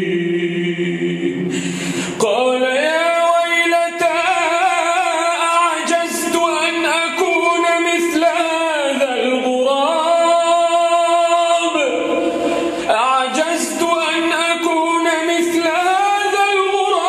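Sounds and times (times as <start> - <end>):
man chanting melodically: 2.2 - 17.0.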